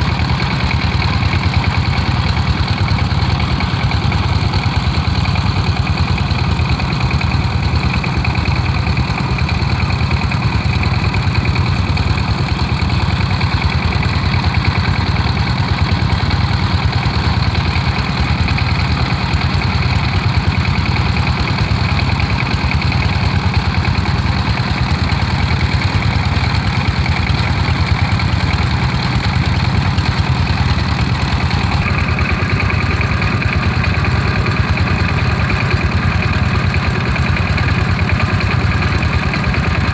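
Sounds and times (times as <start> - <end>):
diesel engines chugging: 0.0 - 39.9.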